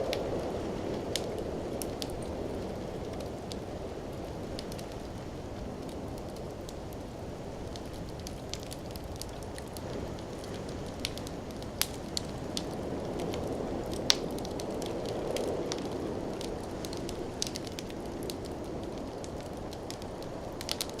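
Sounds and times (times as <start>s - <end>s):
fire crackling and popping: 0.0s - 21.0s
fire flames rushing: 0.0s - 21.0s.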